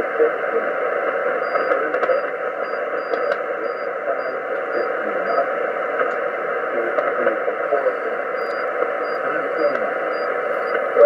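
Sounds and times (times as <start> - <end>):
shortwave static hiss: 0.0 - 11.0.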